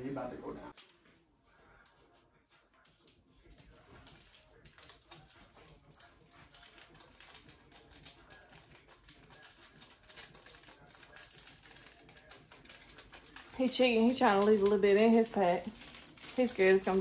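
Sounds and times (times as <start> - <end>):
plastic packets crinkling: 2.8 - 17.0.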